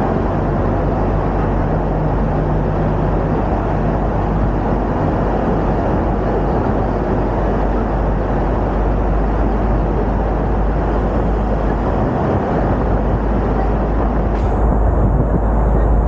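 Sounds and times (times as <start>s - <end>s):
road traffic roar in tunnel: 0.0s - 16.0s
rushing air: 0.0s - 16.0s.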